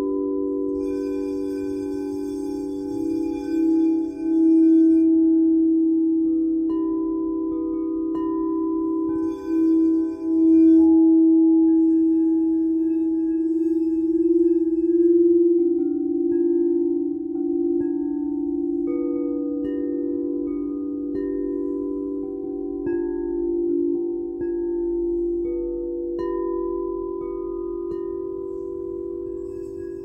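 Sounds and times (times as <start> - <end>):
chime-like notes struck: 0.0 - 6.1, 6.7 - 30.0
singing bowls ringing: 0.0 - 30.0.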